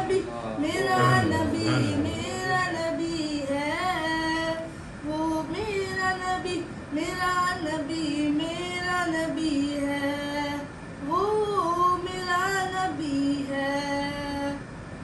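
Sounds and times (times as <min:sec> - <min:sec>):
boy singing unaccompanied: 0:00.0 - 0:14.6.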